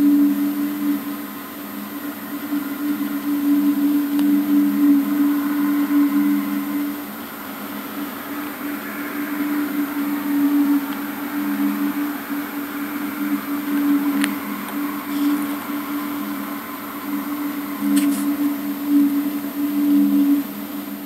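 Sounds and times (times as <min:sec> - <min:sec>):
faint high whine: 0:00.0 - 0:21.0
low two-note drone: 0:00.0 - 0:21.0.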